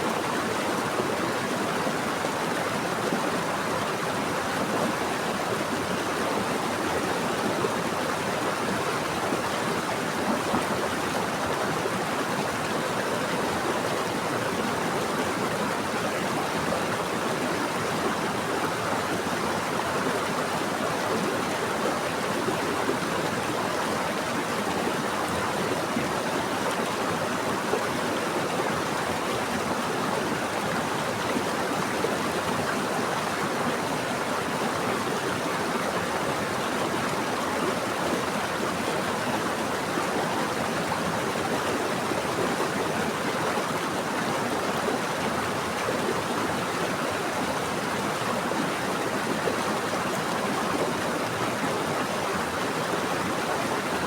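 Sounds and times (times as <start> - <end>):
stream rushing and splashing: 0.0 - 54.0.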